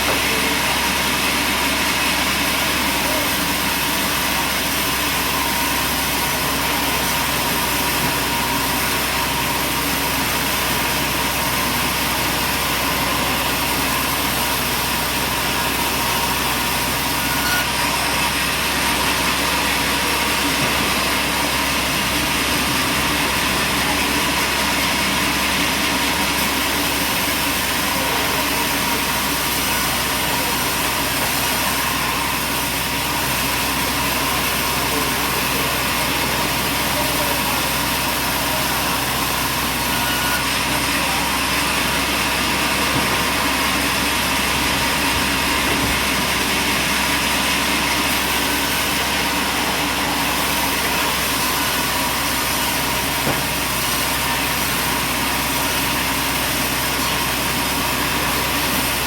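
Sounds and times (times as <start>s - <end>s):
steady machine hum: 0.0s - 59.0s.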